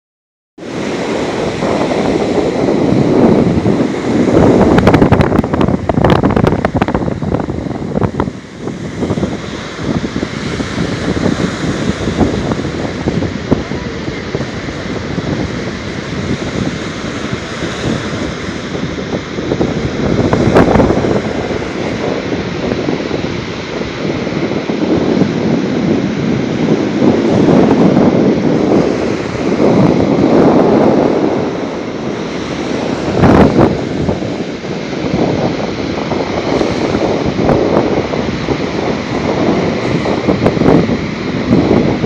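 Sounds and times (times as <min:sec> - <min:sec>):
surf breaking on shore: 0:00.6 - 0:42.0
wind buffeting microphone: 0:00.6 - 0:42.0.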